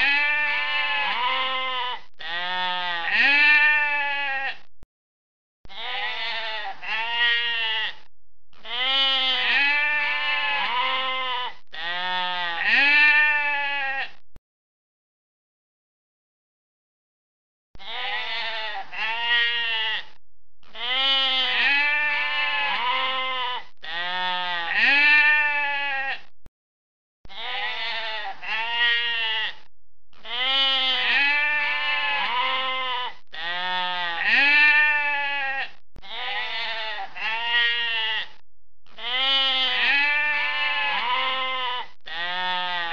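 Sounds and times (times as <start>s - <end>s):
sheep bleating: 0.0s - 4.7s, 5.7s - 14.2s, 17.8s - 26.3s, 27.3s - 38.4s, 39.0s - 42.9s.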